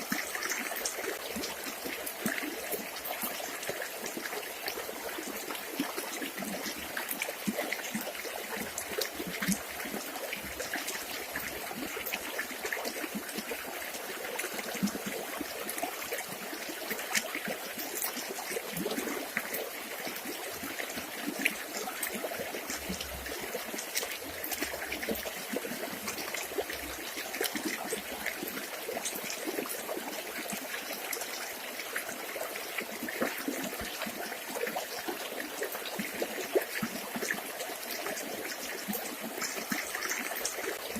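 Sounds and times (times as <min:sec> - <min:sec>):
river flowing and trickling: 0:00.0 - 0:40.9
small water splashes and gurgles: 0:00.0 - 0:40.9.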